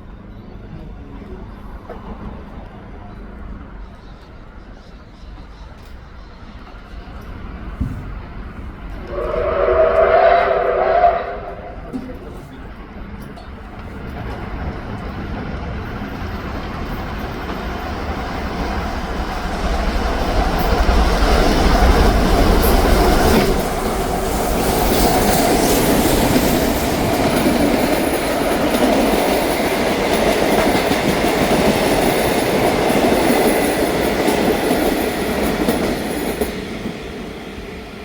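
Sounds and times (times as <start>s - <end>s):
steam locomotive rumble: 0.0s - 38.0s
train wheels clickety-clack: 1.2s - 38.0s.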